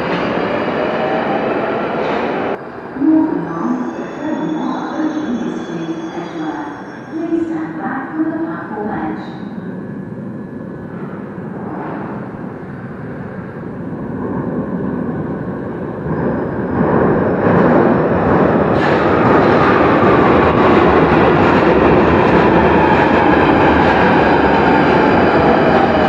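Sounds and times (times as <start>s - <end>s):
underground train rumble: 0.0s - 26.0s.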